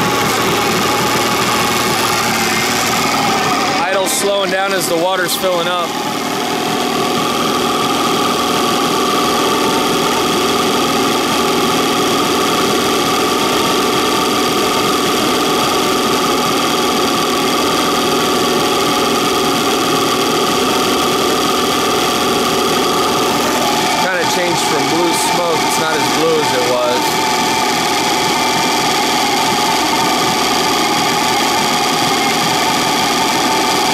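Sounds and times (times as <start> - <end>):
outboard engine running: 0.0 - 33.9.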